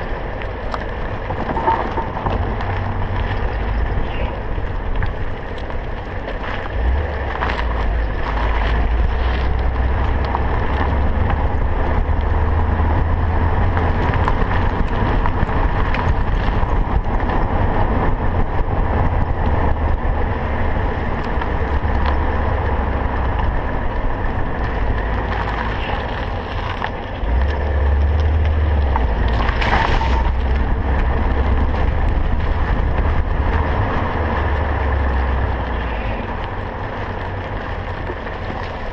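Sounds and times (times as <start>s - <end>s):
car rumbling over bumps: 0.0s - 38.9s.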